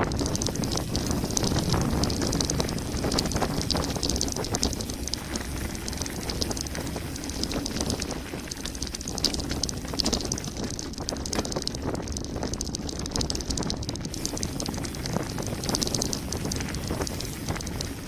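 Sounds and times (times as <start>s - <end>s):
bike rattling: 0.0s - 18.0s
wind rumble on microphone: 0.0s - 18.0s.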